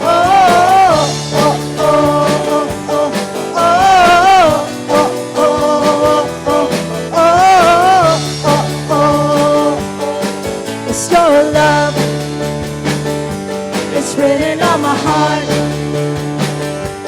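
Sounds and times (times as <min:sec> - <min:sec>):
wordless melodic lead: 0:00.0 - 0:17.0
worship band music: 0:00.0 - 0:17.0.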